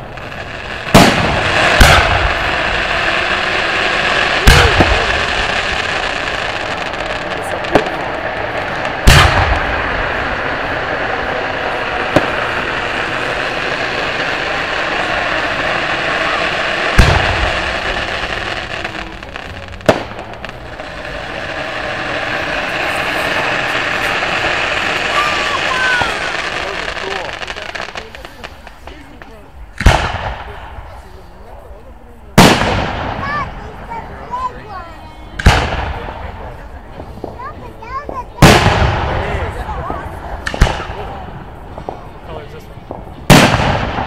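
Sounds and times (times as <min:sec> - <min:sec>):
firework shells booming: 0:00.0 - 0:31.4, 0:32.3 - 0:34.5, 0:35.3 - 0:44.0
background hubbub: 0:00.0 - 0:44.0.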